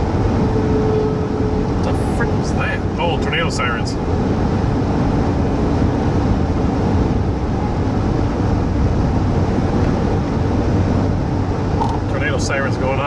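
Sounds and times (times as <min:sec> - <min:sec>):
road and wind noise: 0:00.0 - 0:13.0
vehicle engine rumble: 0:00.0 - 0:13.0.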